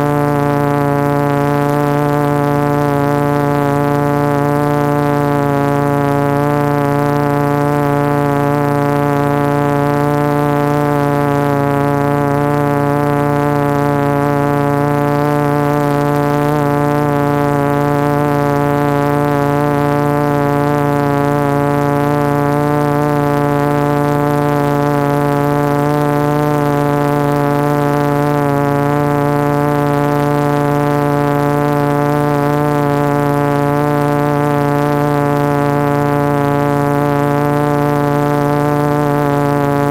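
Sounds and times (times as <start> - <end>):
drone motors humming: 0.0 - 39.9.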